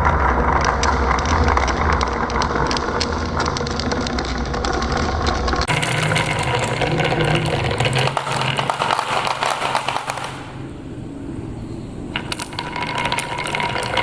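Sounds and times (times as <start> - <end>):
marbles rolling on wooden run: 0.0 - 10.7, 12.1 - 14.0.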